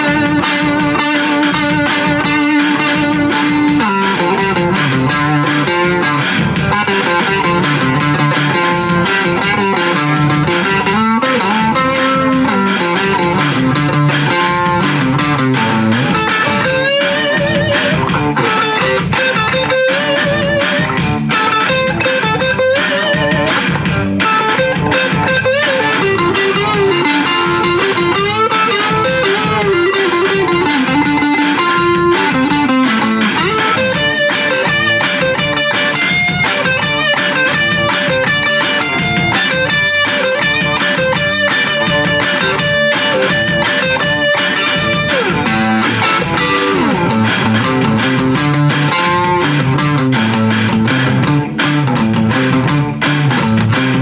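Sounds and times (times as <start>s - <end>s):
electric guitar riffs: 0.0s - 54.0s.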